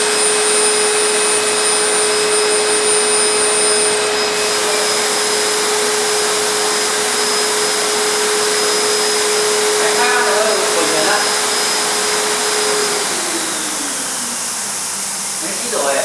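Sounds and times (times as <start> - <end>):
cnc routing machine running: 0.0 - 16.0.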